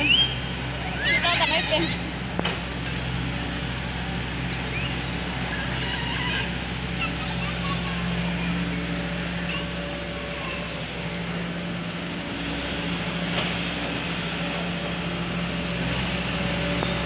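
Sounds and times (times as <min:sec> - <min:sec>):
excavator diesel engine humming: 0:00.0 - 0:17.0.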